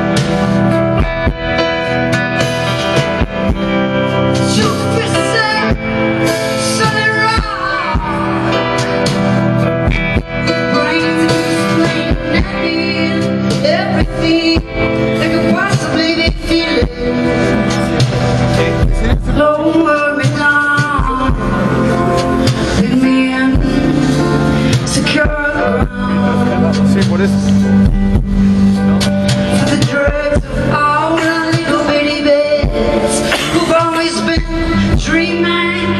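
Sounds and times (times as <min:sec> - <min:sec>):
guitar: 0:00.0 - 0:35.9
live band music: 0:00.0 - 0:35.9
woman singing: 0:03.2 - 0:18.1, 0:19.3 - 0:26.6, 0:29.4 - 0:35.9.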